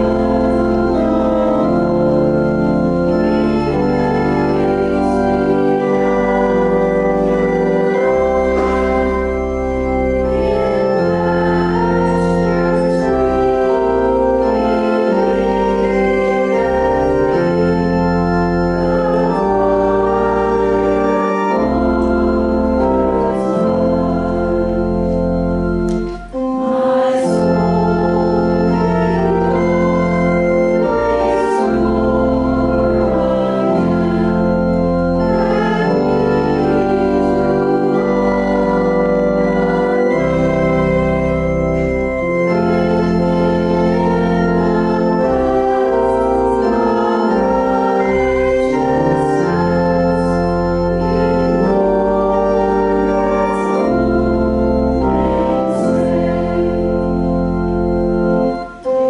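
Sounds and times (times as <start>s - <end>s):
church organ playing a hymn: 0.0s - 59.0s.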